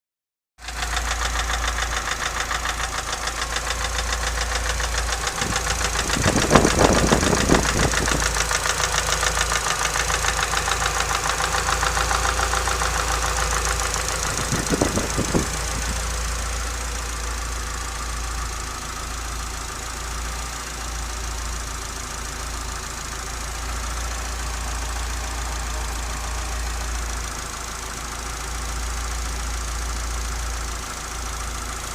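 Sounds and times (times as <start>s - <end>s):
car engine running with a rattle: 0.6s - 31.9s
engine knocking: 0.6s - 31.9s.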